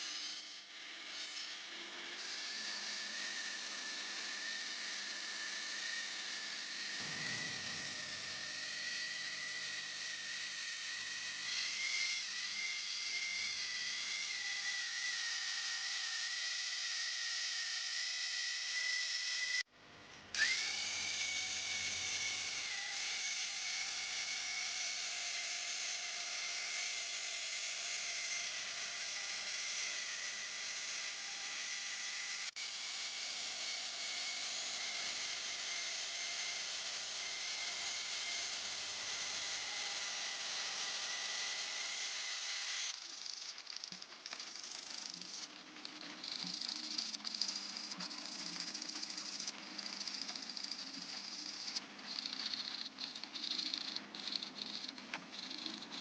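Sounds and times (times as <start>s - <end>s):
electric power tool whining: 0.0s - 19.7s, 20.3s - 56.0s.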